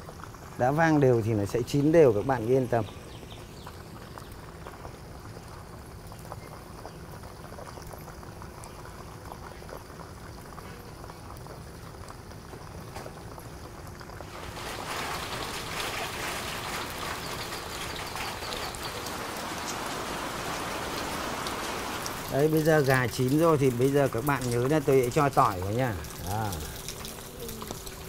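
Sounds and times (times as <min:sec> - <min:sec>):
oil sizzling with small pops: 0:00.0 - 0:28.0
steady rain hiss: 0:00.0 - 0:28.0.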